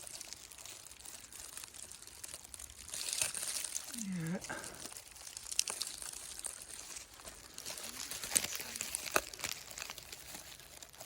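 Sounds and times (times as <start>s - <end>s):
leaves and twigs rustling: 0.0s - 11.0s
twigs snapping: 0.0s - 11.0s.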